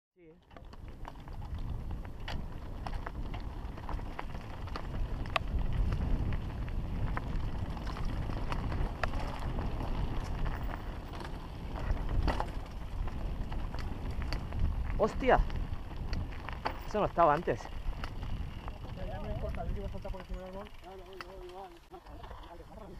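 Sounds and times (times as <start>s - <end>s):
bike clicking and rattling on stones: 0.3s - 22.9s
wind on microphone: 0.6s - 20.3s
tyres rolling on dirt: 0.6s - 22.9s.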